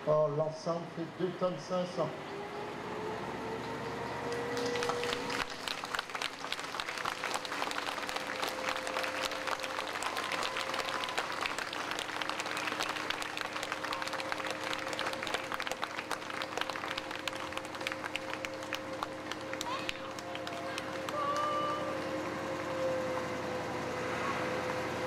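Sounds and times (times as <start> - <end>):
steady low hum: 0.0 - 25.0
crowd applauding: 4.3 - 25.0.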